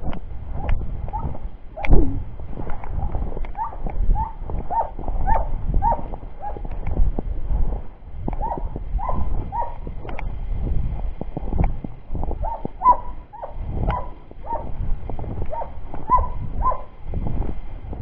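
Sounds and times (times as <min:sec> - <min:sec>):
low wind-like rumble: 0:00.0 - 0:18.0.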